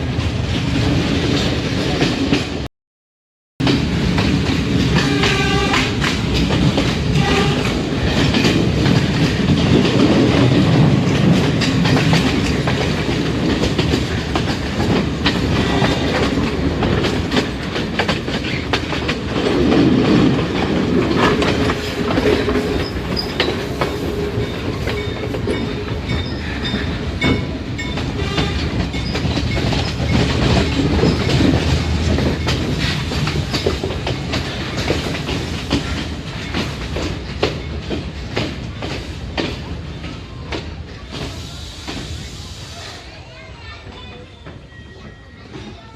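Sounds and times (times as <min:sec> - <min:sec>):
train rumble: 0:00.0 - 0:02.7, 0:03.6 - 0:45.9
wheels clicking over rail joints: 0:03.6 - 0:41.4.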